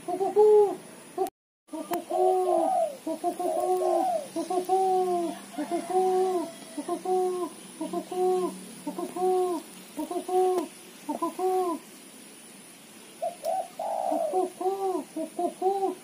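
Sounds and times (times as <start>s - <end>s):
dove cooing: 0.0s - 11.9s, 13.2s - 16.0s.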